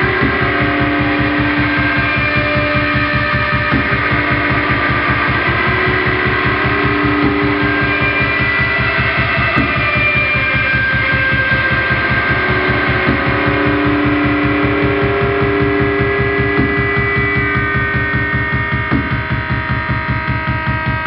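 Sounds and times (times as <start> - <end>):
held high synth tones: 0.0 - 19.9
throbbing bass pulse: 0.0 - 21.0.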